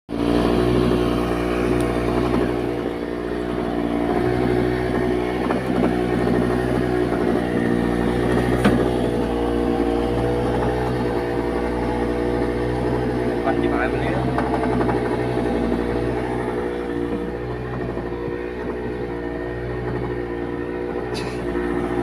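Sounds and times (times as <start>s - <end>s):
engine running steadily: 0.1s - 22.0s.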